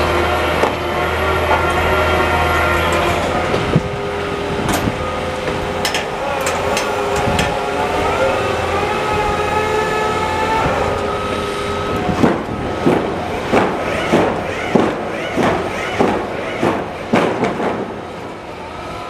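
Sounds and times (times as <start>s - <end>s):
machinery high squealing whine: 0.0s - 19.0s
heavy ringing strikes: 1.2s - 18.5s.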